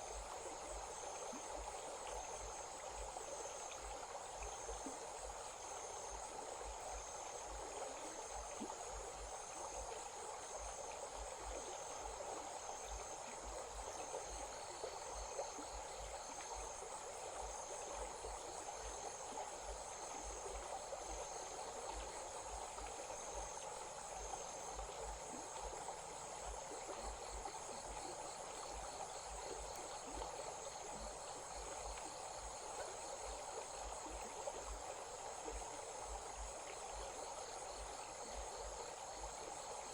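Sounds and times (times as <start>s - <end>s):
lower pulsed insect trill: 0.0s - 39.9s.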